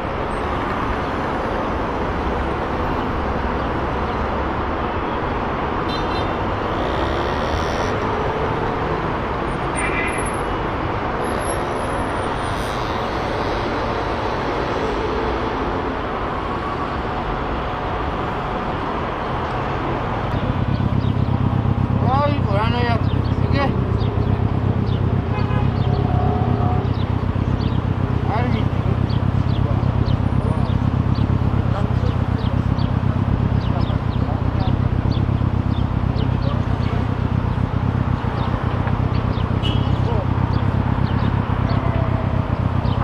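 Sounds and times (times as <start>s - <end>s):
road traffic: 0.0s - 43.0s.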